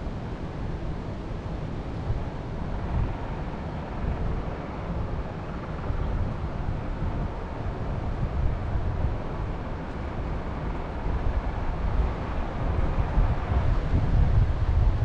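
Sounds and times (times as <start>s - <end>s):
wind gusting on microphone: 0.0s - 15.0s.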